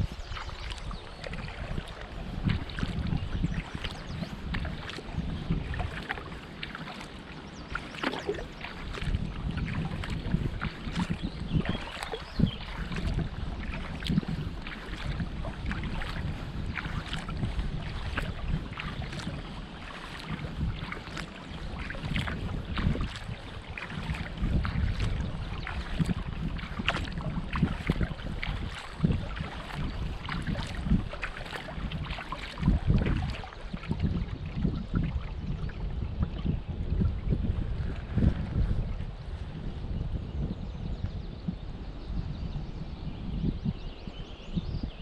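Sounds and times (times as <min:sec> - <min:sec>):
paddle splashing water: 0:00.0 - 0:40.0
wind rumble on microphone: 0:00.0 - 0:45.0.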